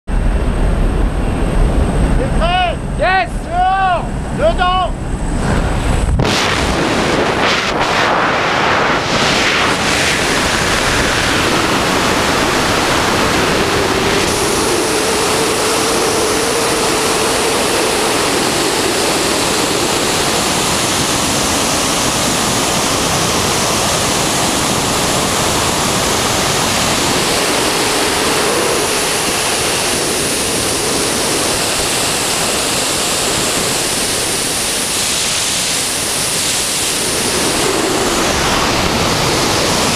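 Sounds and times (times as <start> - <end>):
wind buffeting microphone: 0.1 - 39.9.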